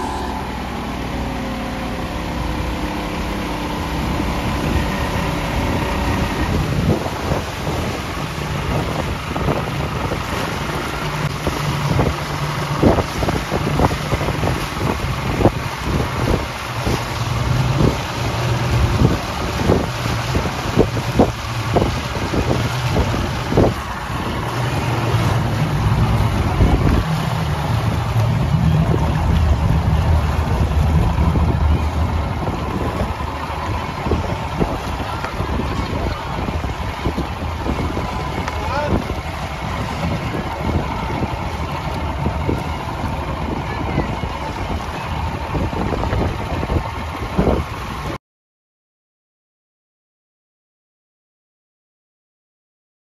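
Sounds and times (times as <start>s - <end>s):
motorboat engine drone: 0.0s - 48.2s
rushing water: 0.0s - 48.2s
wind noise on microphone: 0.0s - 48.2s.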